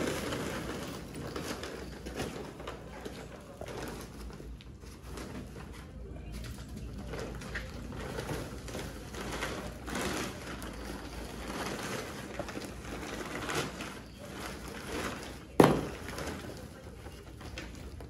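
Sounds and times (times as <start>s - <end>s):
plastic sack rustling and crinkling: 0.0s - 18.0s.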